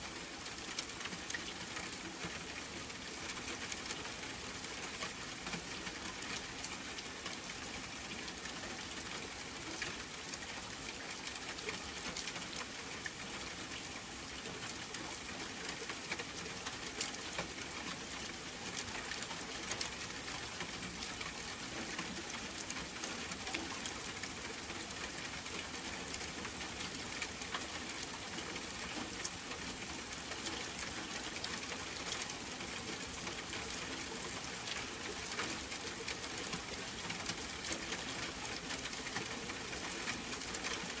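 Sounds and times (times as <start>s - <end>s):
rain drops ticking: 0.0s - 41.0s
steady rain hiss: 0.0s - 41.0s.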